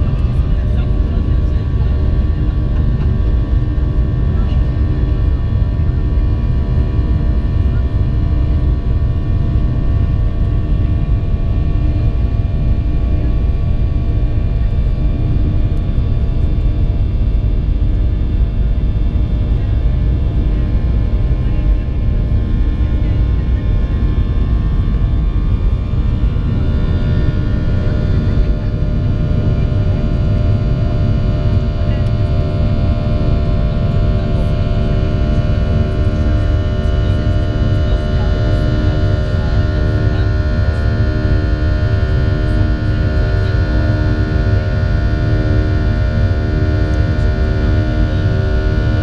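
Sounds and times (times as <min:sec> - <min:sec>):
jet engines rumbling from cabin: 0:00.0 - 0:49.0.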